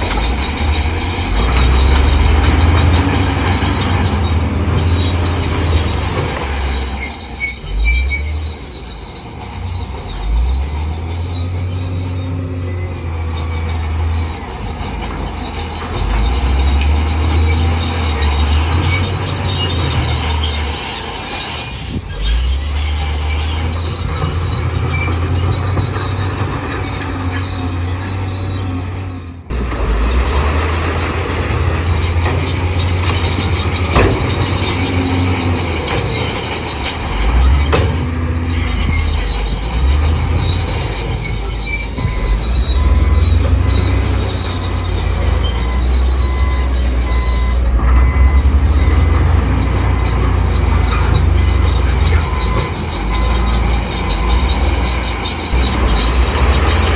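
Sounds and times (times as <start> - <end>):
heavy diesel machinery running: 0.0 - 56.9
steel tracks squealing: 0.0 - 56.9.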